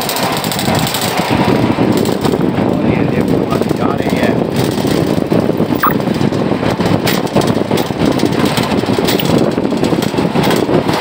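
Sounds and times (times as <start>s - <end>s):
cable car rumbling and rattling: 0.0s - 11.0s.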